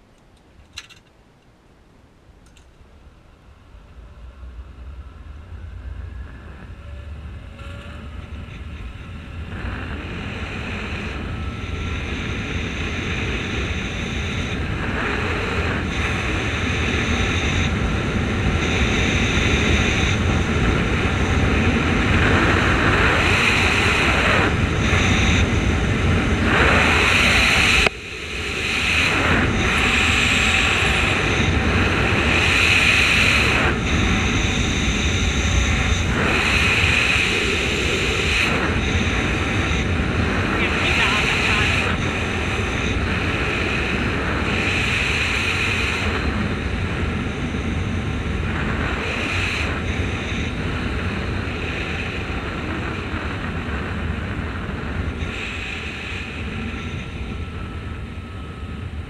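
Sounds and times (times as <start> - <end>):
zipline trolley running on cable: 2.4 - 59.0
wind rushing over microphone: 3.5 - 59.0.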